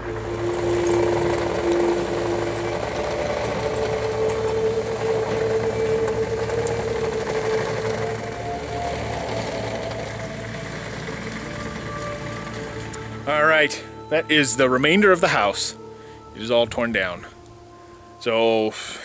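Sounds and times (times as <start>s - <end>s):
diesel engine droning: 0.0s - 19.0s
hydraulic whine: 0.0s - 19.0s.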